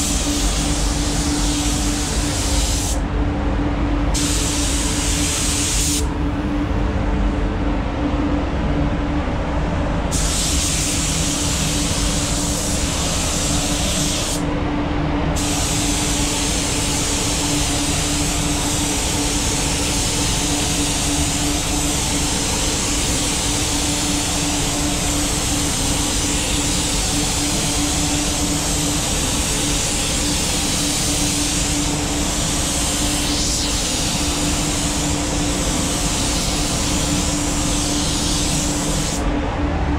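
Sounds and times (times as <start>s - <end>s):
spray gun hissing: 0.0s - 3.0s, 4.2s - 6.0s, 10.1s - 14.4s, 15.4s - 39.2s
steady low hum: 0.0s - 39.9s.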